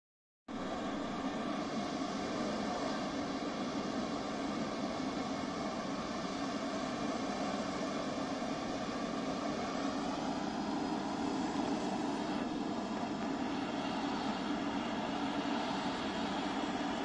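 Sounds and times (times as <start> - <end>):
turboprop engine droning: 0.5 - 17.0.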